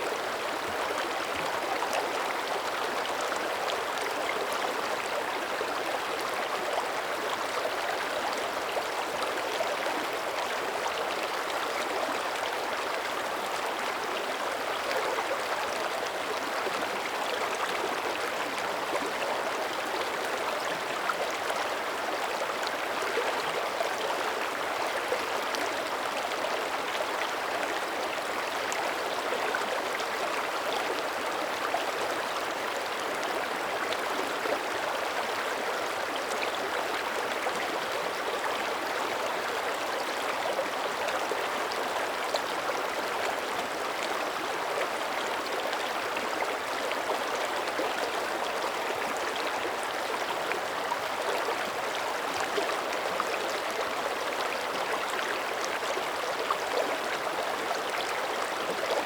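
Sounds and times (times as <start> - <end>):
creek burbling over rocks: 0.0 - 59.0.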